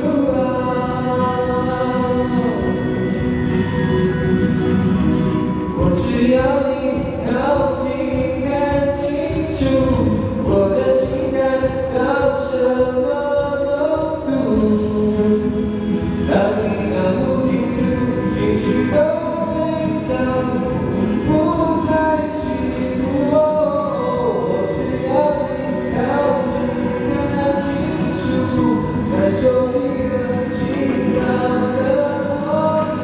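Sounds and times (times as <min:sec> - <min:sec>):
acoustic guitar strumming: 0:00.0 - 0:33.0
man singing pop ballad: 0:00.0 - 0:33.0.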